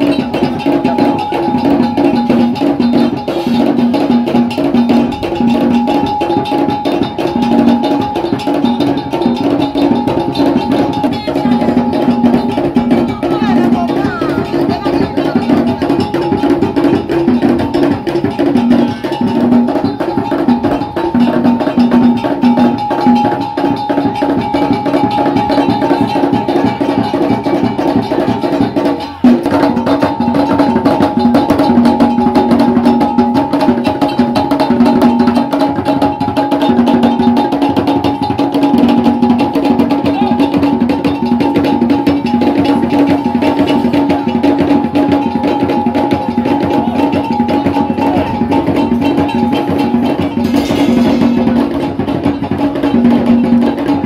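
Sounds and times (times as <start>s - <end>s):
fast drums and percussion: 0.0s - 54.0s
pitched percussion melody: 0.0s - 54.0s.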